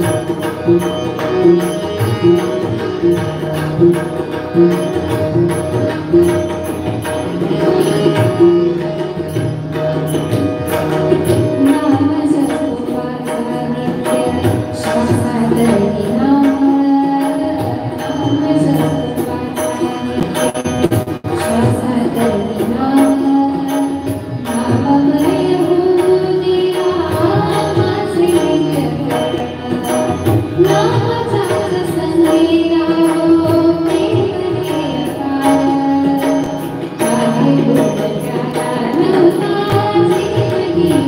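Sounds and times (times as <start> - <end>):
hand drum rhythm: 0.0 - 41.0.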